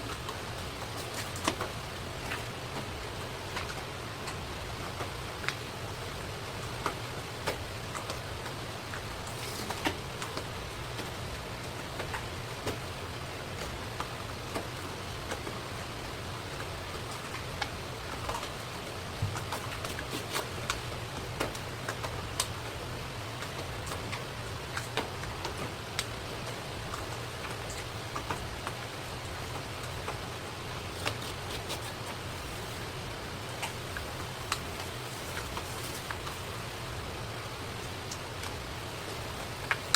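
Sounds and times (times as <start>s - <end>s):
background hiss and hum: 0.0s - 39.9s.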